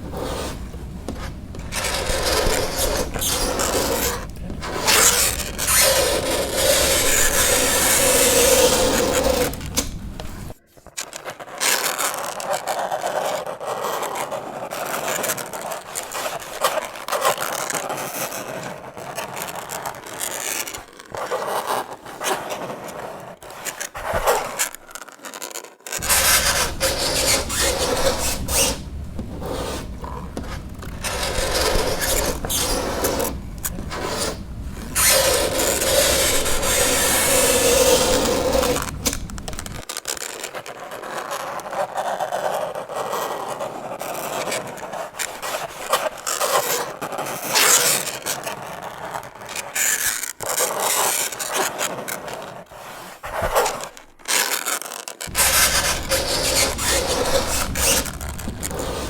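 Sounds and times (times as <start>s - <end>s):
fingernails scraping chalkboard: 0.0s - 11.4s, 13.7s - 39.9s, 41.2s - 54.0s, 55.3s - 59.0s.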